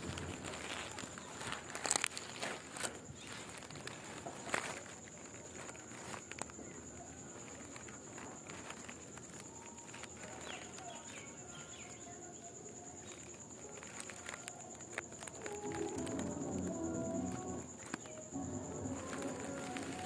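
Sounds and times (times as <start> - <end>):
clicks and rustles: 0.0 - 20.0
high-pitched insect whine: 0.0 - 20.0.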